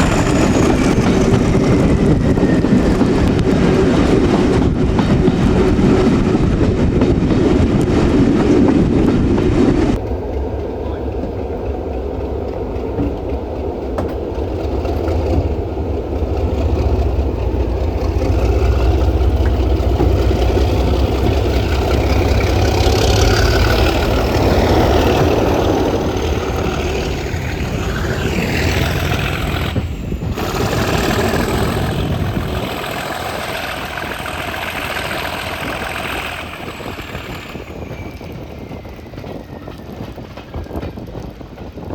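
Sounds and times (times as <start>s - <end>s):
diesel locomotive engine rumble: 0.0s - 41.9s.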